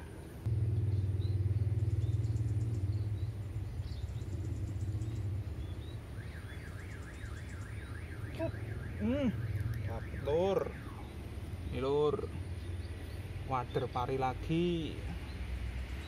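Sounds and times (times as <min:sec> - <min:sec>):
bird chirps: 0:00.0 - 0:16.0
engine low rumble: 0:00.0 - 0:16.0.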